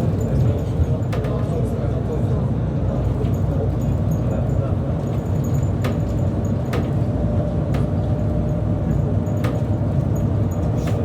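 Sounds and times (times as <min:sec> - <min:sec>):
vehicle rumble inside cabin: 0:00.0 - 0:11.0.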